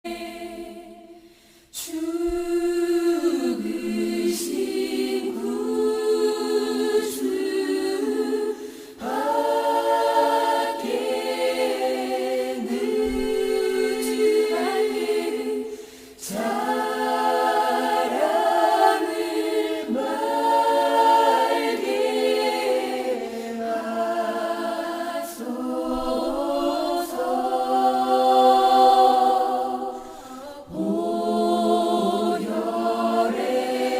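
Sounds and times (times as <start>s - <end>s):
choir singing sustained chords: 0.1s - 33.9s.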